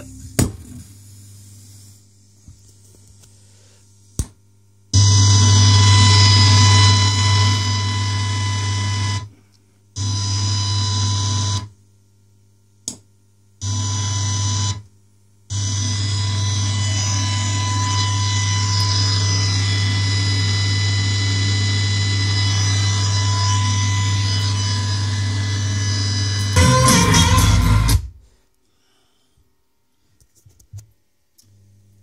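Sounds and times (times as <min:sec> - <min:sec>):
amplifier mains hum and hiss: 0:00.0 - 0:32.0.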